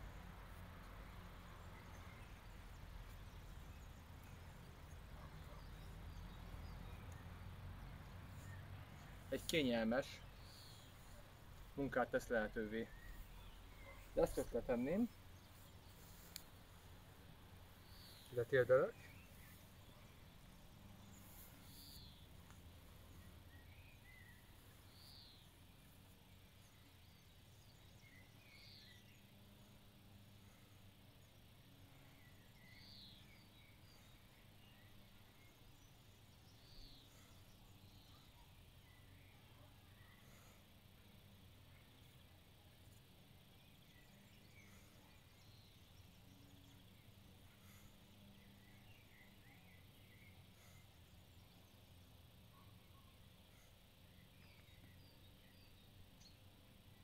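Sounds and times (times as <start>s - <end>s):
faint bird chirps: 1.5s - 57.0s.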